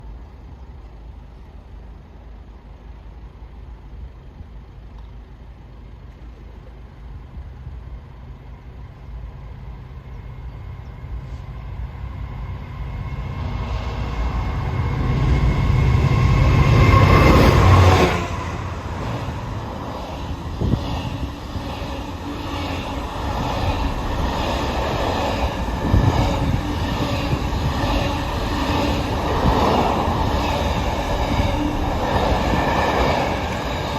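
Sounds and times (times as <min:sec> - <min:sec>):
freight train passing: 0:00.0 - 0:33.9.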